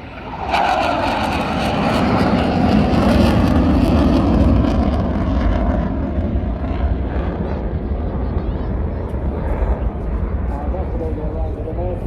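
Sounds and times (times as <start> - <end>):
jet fighter flying past: 0.0 - 12.0.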